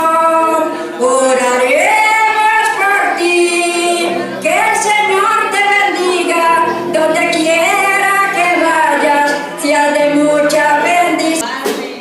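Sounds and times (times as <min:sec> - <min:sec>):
voices singing sliding notes: 0:01.0 - 0:11.4.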